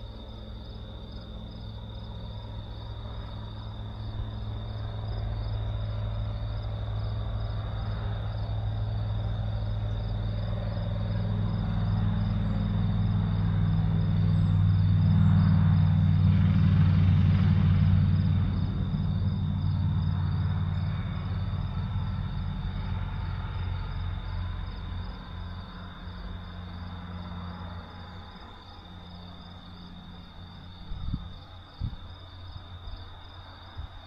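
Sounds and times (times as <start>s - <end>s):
crickets chirping: 0.0s - 34.0s
low engine drone: 0.0s - 34.0s.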